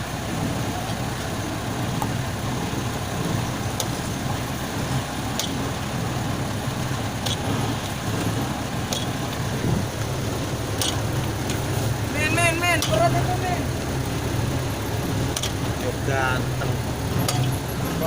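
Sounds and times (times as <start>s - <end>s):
brick making machine humming: 0.0s - 18.0s.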